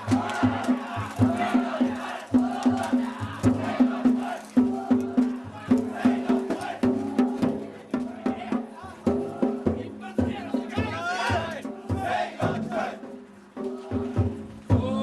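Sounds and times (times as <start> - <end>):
crowd shouting chants: 0.0 - 15.0
drums and small gongs beating: 0.0 - 15.0.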